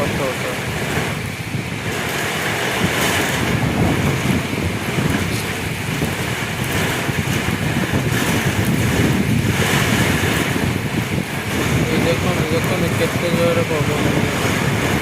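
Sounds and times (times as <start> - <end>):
heavy rain: 0.0 - 15.0
strong wind gusting: 0.0 - 15.0
wind buffeting microphone: 0.0 - 15.0.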